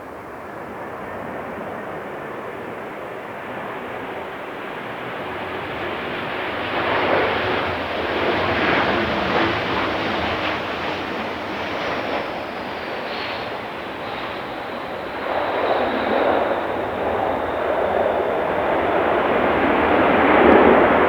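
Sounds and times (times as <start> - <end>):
jet engines rushing: 1.0 - 21.0.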